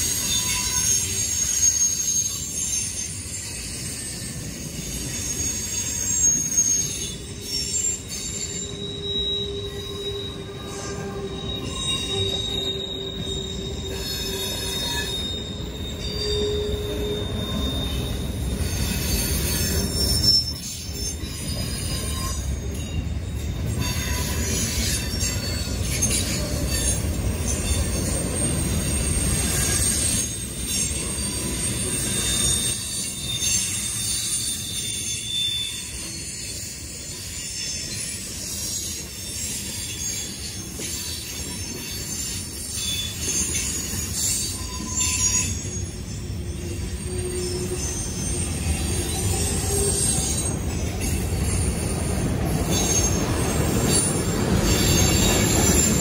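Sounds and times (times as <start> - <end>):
train cars rumbling past: 0.0 - 56.0
wheels squealing on rails: 0.0 - 56.0.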